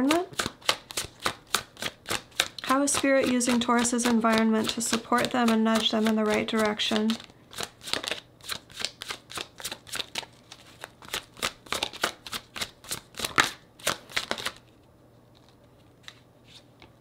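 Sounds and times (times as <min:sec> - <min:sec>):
cards being shuffled: 0:00.0 - 0:16.9.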